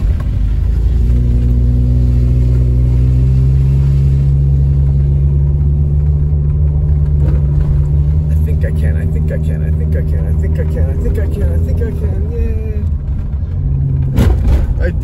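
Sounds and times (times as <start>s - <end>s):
car engine drone: 0.0s - 15.0s
low road rumble: 0.0s - 15.0s.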